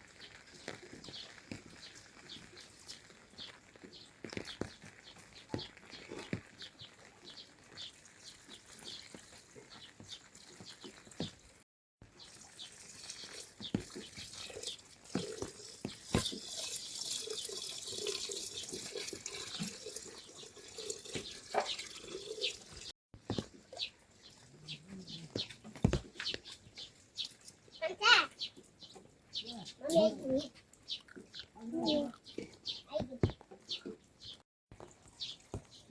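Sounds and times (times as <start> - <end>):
water running: 0.0 - 29.2.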